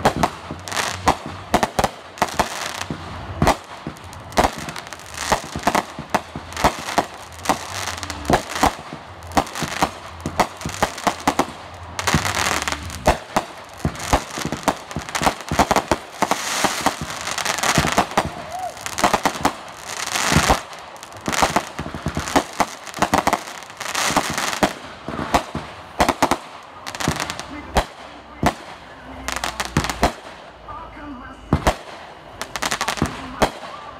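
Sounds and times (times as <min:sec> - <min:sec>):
fireworks bangs: 0:00.0 - 0:33.9
fireworks crackling: 0:00.0 - 0:33.9.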